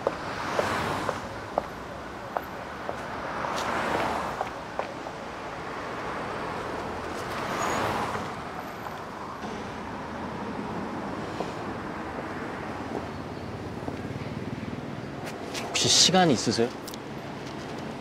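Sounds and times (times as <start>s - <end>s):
cars whooshing past: 0.0s - 15.6s
steady traffic noise: 0.0s - 18.0s.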